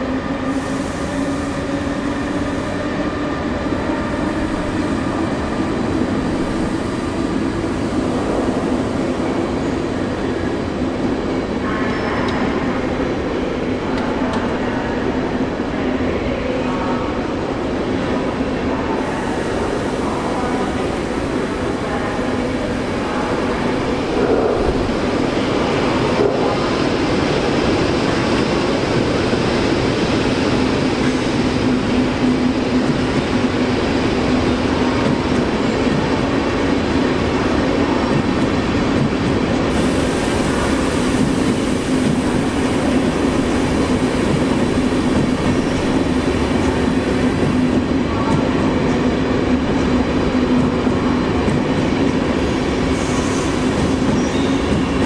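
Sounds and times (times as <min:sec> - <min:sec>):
train rumbling past: 0:00.0 - 0:55.0.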